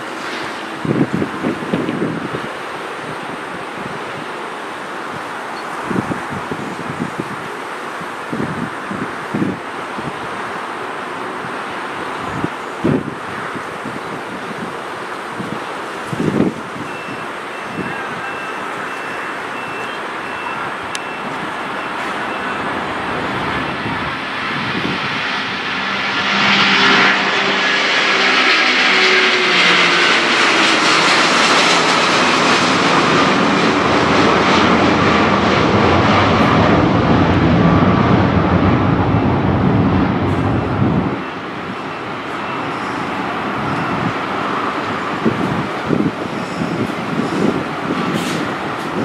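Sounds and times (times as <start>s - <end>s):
airliner jet engines passing: 0.0s - 49.0s.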